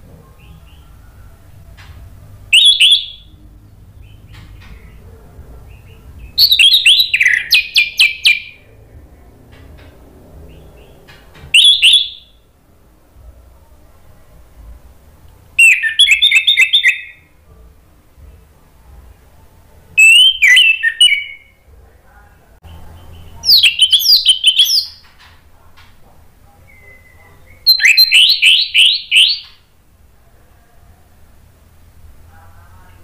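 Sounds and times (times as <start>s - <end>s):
thrush singing: 0.0s - 21.6s, 22.6s - 25.2s, 26.6s - 29.7s.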